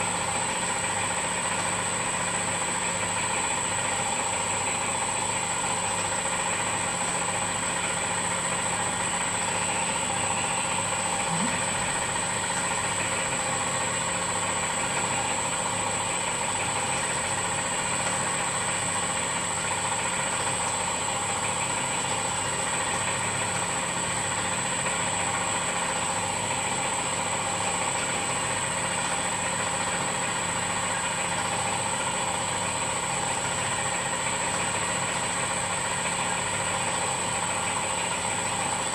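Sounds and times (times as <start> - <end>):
honey auger machine humming: 0.0 - 38.9.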